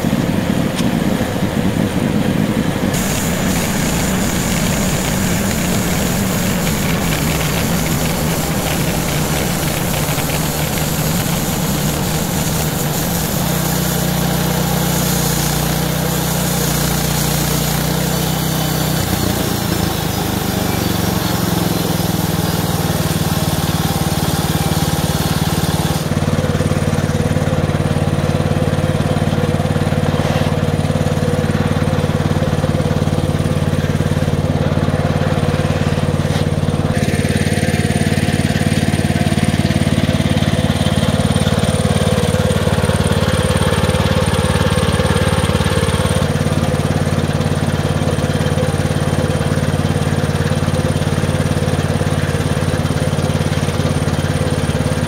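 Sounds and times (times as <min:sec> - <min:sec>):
bandsaw mill engine running: 0:00.0 - 0:55.0.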